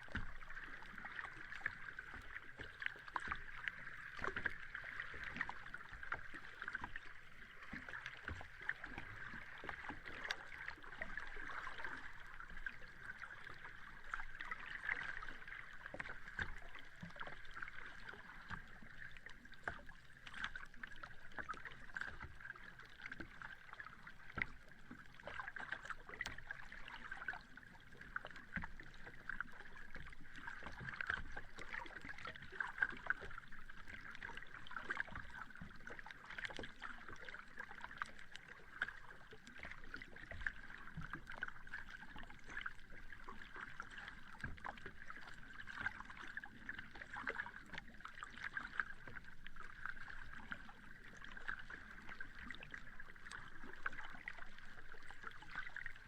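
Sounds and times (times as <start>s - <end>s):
sea water lapping at shore: 0.0s - 56.0s.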